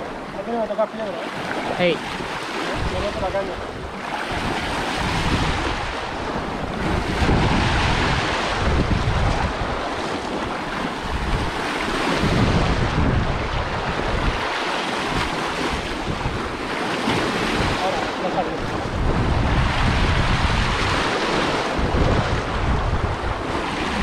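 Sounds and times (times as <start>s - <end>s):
waves washing against rocks: 0.0s - 24.0s
wind buffeting microphone: 0.0s - 24.0s.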